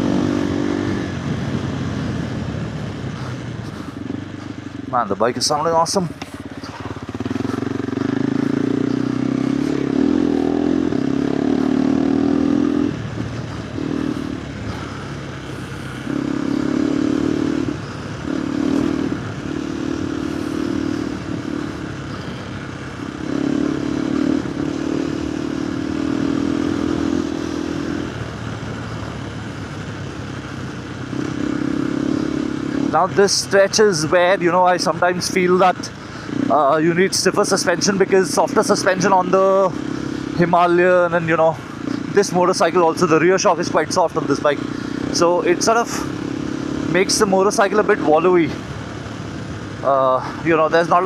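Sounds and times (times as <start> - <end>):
motorcycle engine under throttle: 0.0 - 51.0.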